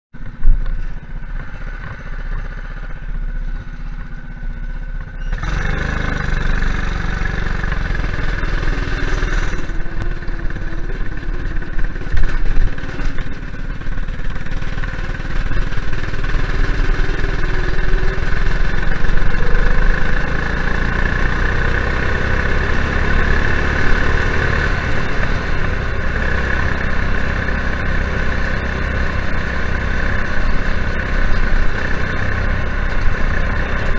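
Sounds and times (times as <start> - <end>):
go kart engine running: 0.2 - 33.9.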